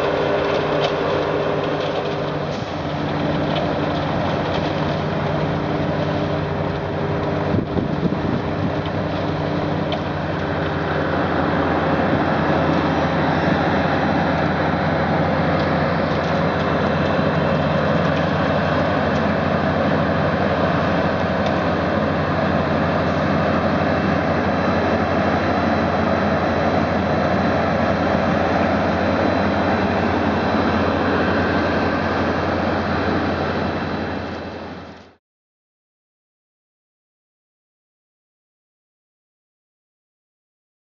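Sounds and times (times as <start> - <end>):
heavy construction machinery running: 0.0 - 35.2.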